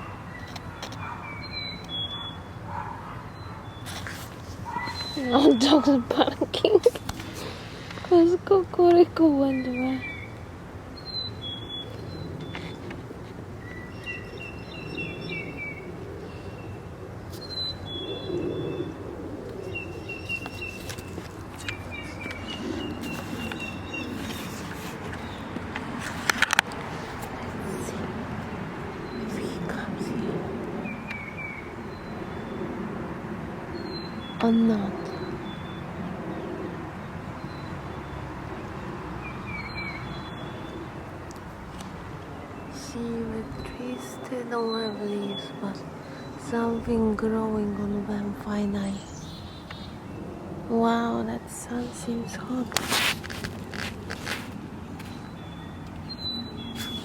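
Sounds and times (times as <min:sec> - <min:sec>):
songbirds chirping: 0:00.0 - 0:33.0, 0:33.6 - 0:57.0.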